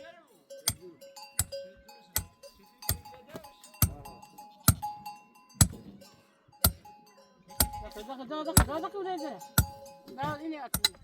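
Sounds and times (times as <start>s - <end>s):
hammer blows ringing: 0.0s - 11.0s.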